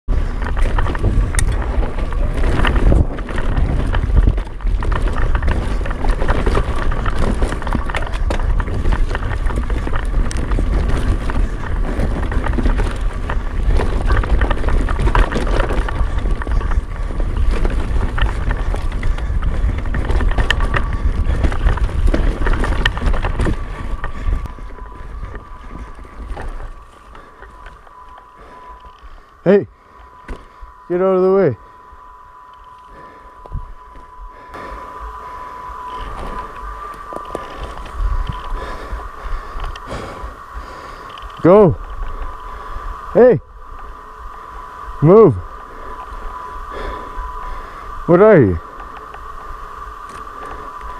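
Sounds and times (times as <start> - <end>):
bike rattling on rough ground: 0.1 - 50.9
faint steady whine: 0.1 - 50.9
wind buffeting microphone: 0.1 - 50.9.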